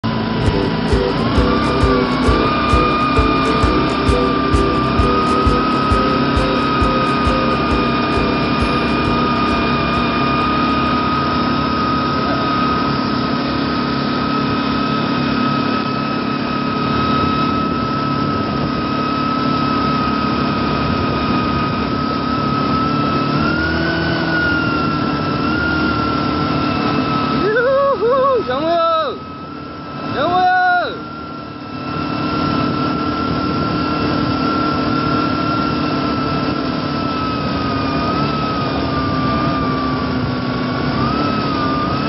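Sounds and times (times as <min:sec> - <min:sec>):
atv engine whining: 0:00.0 - 0:42.0.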